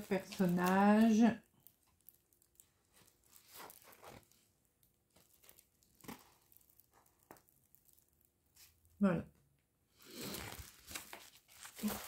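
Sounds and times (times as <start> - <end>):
plastic film rustling: 0.0 - 8.9, 10.0 - 12.0.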